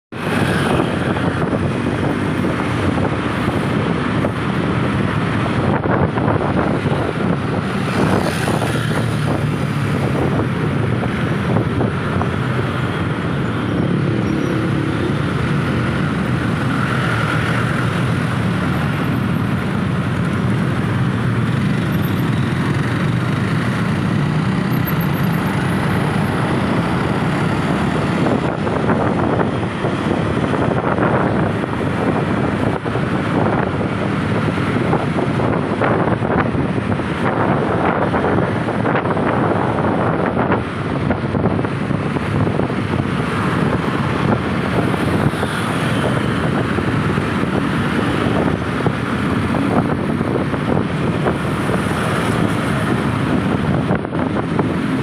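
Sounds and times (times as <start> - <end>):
wind on microphone: 0.1 - 24.7, 25.5 - 55.0
vehicle engines in traffic: 0.1 - 55.0.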